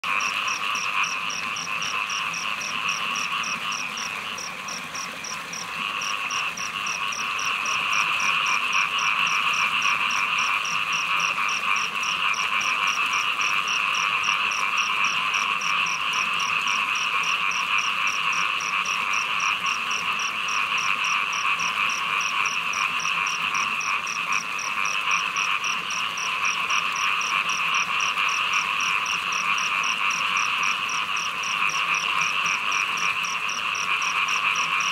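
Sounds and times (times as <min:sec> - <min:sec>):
frog chorus: 0:00.0 - 0:34.9.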